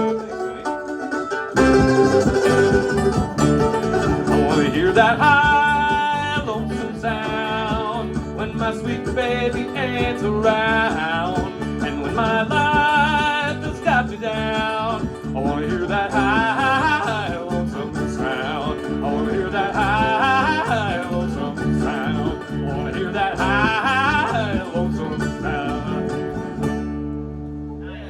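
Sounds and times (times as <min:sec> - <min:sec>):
acoustic bluegrass band playing: 0:00.0 - 0:28.0.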